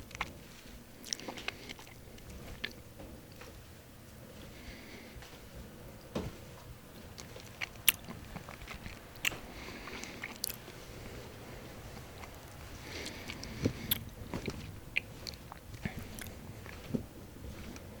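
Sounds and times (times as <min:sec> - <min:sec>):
biting and chewing bread: 0:00.0 - 0:05.2, 0:05.9 - 0:18.0
bread crust crackling: 0:00.0 - 0:18.0.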